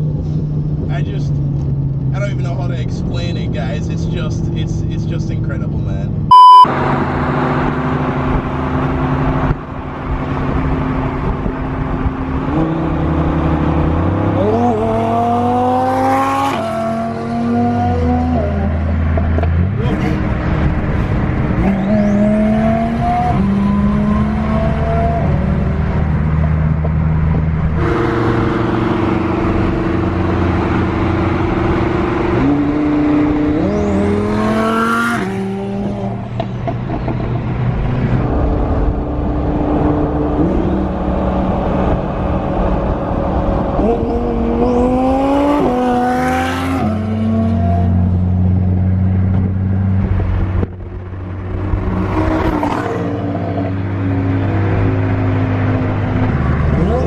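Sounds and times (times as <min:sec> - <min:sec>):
sports car engine accelerating: 0:06.3 - 0:57.0.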